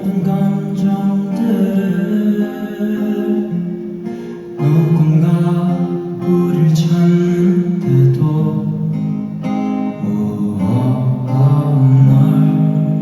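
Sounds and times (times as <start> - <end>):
guitar chords: 0.0 - 13.0
person singing: 0.0 - 13.0.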